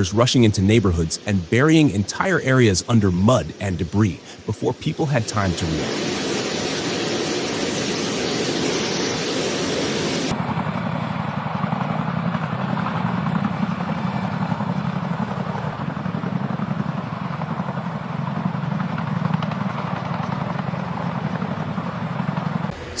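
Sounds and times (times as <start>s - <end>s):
helicopter rotor drone: 0.0s - 23.0s.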